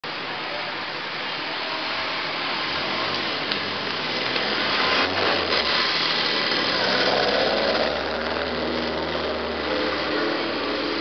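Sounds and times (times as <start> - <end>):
road noise hiss: 0.0 - 11.0
vehicle engines running: 0.0 - 11.0.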